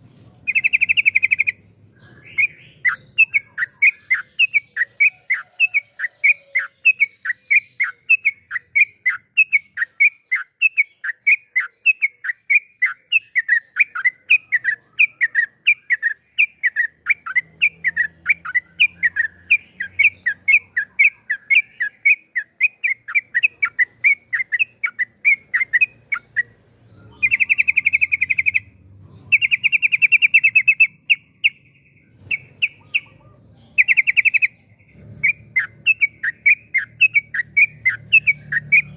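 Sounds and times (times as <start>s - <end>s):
bulbul chirping: 0.0s - 38.9s.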